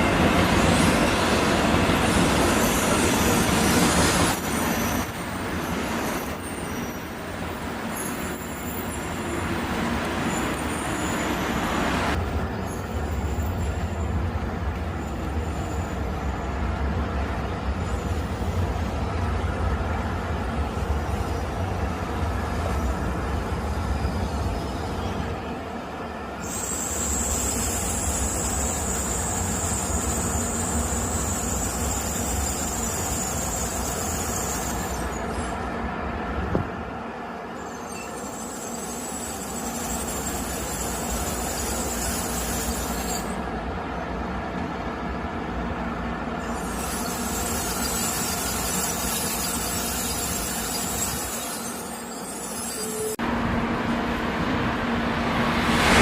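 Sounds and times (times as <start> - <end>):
train wheel and rail rush: 0.0 - 56.0.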